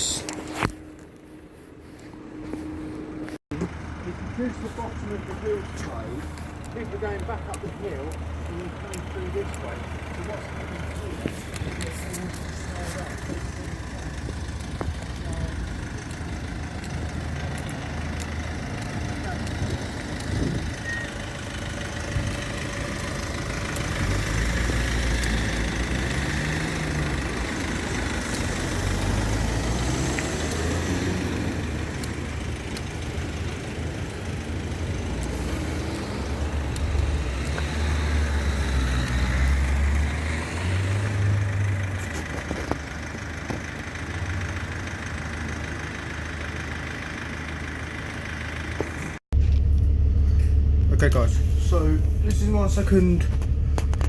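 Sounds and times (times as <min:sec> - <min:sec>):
car engines passing slowly: 0:00.0 - 0:54.0.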